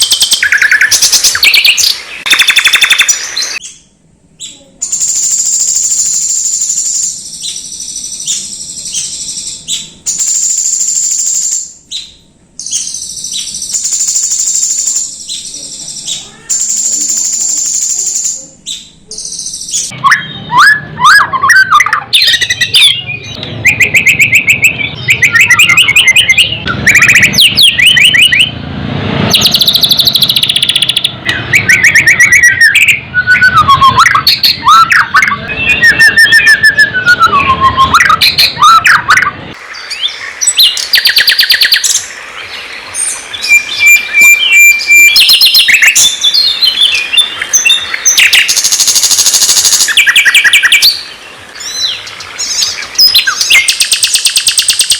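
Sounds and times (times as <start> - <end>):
songbird chirps and trills: 0.0 - 28.6, 29.2 - 54.9.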